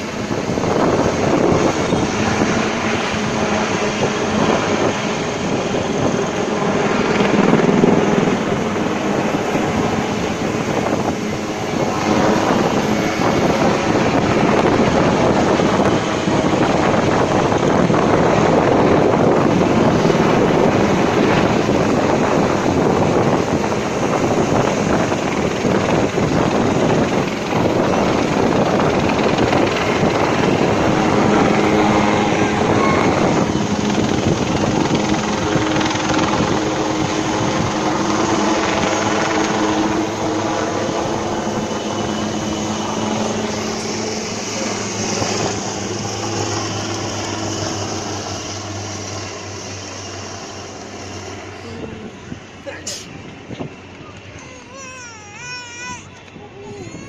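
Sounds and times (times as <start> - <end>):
helicopter flying past: 0.0 - 57.0.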